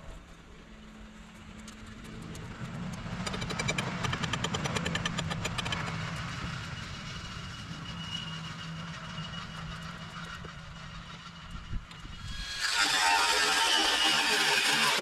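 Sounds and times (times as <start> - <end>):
small engine running: 0.3 - 15.0.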